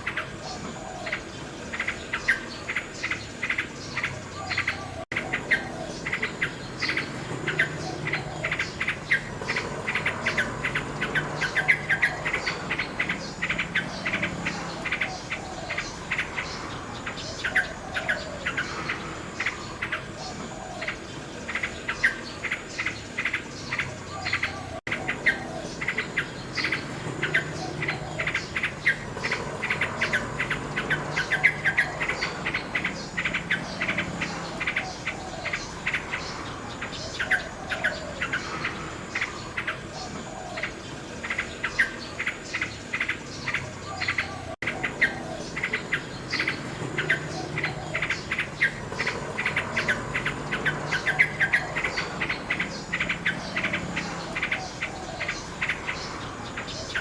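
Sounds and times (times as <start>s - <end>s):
crickets chirping: 0.0s - 57.0s
nightingale singing: 0.0s - 57.0s.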